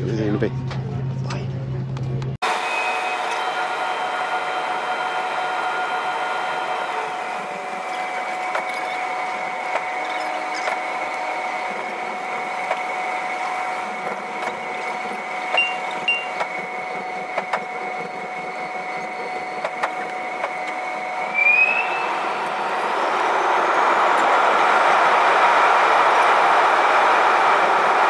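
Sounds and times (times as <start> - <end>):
jet engines whining: 2.4 - 28.0.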